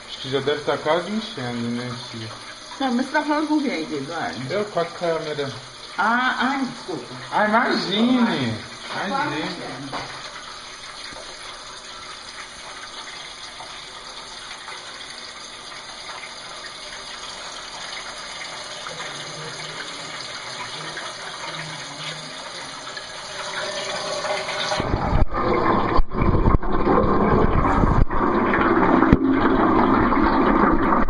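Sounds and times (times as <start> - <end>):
water pouring into washing machine: 0.0 - 31.0.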